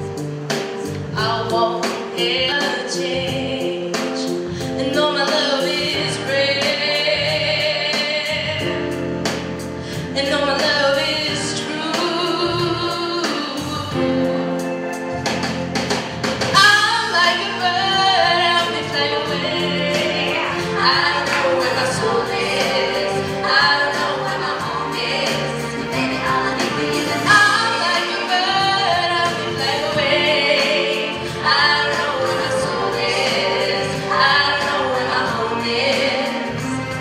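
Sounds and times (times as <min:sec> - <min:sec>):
instrumental accompaniment: 0:00.0 - 0:37.0
woman singing pop song: 0:00.9 - 0:08.9, 0:09.9 - 0:14.6, 0:16.5 - 0:37.0.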